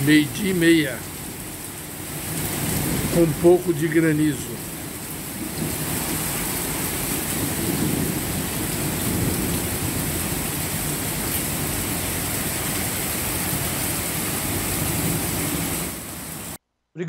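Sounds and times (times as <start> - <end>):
hail falling: 0.0 - 16.6
heavy rain: 0.0 - 16.6.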